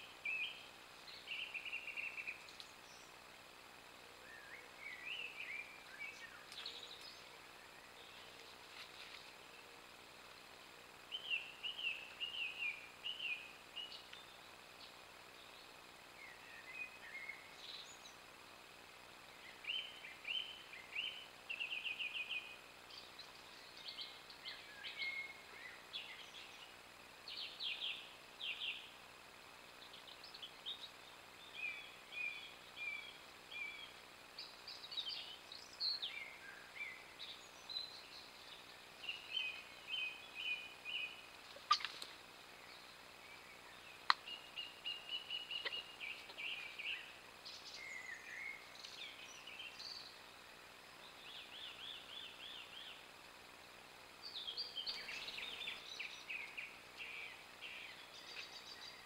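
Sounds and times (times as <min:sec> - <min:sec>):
faint background hiss: 0:00.0 - 0:59.0
thrushes singing: 0:00.0 - 0:59.0.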